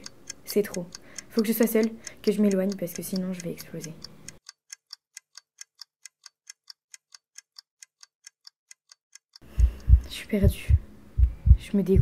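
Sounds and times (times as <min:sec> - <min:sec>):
clock ticking fast: 0:00.0 - 0:12.0.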